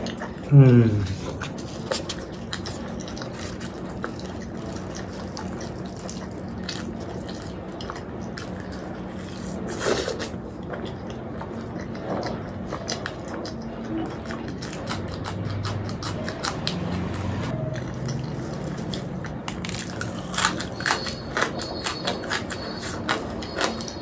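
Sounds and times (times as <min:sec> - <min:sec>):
person chewing wetly: 0:00.0 - 0:24.0.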